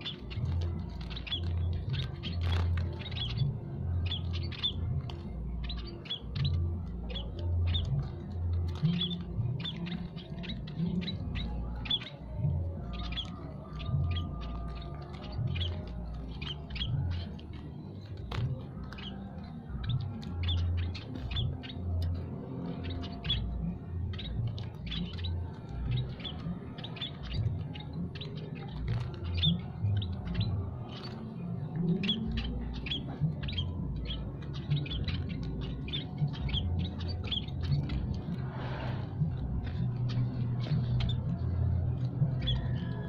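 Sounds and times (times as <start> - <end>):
flock of birds chirping: 0.0 - 43.0.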